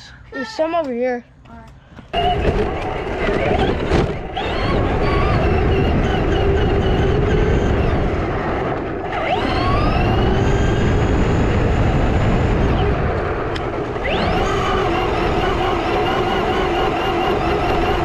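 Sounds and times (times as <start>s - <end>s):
steady rumble: 0.0s - 18.0s
electric motor whining: 2.1s - 18.0s.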